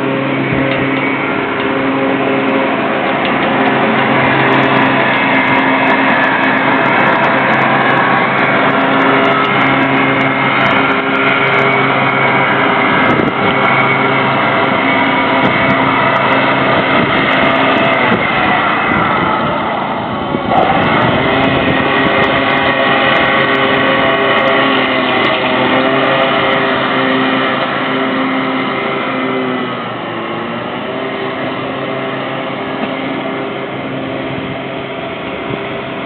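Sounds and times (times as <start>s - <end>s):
heavy machinery drone: 0.0s - 36.0s.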